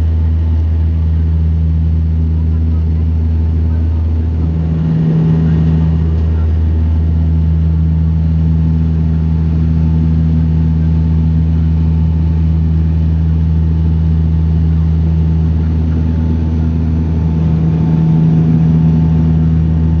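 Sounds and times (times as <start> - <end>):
turboprop plane engines droning: 0.0 - 20.0.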